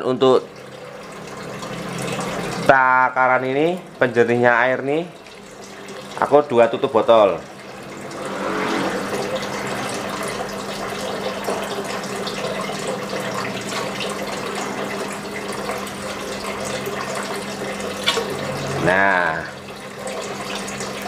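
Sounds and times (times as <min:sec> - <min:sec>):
water splashing into tank: 0:00.4 - 0:21.0.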